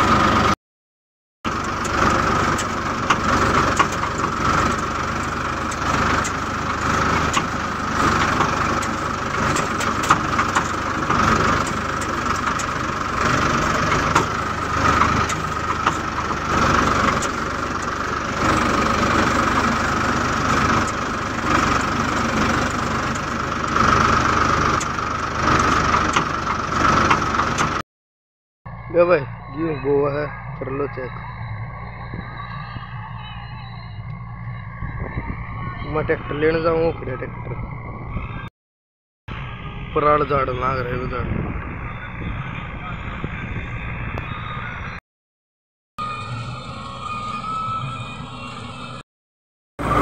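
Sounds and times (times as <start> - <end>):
tractor diesel engine running: 0.0 - 0.6, 1.4 - 27.8, 28.7 - 38.5, 39.3 - 45.0, 46.0 - 49.0, 49.8 - 50.0.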